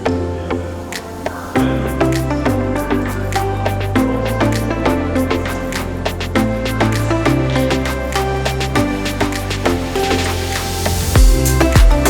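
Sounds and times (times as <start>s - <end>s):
upbeat music with drums and keyboard: 0.0s - 12.0s.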